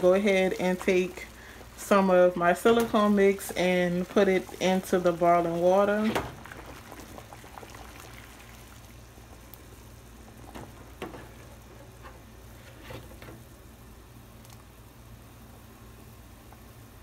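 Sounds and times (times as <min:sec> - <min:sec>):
water boiling and bubbling: 0:00.0 - 0:17.0.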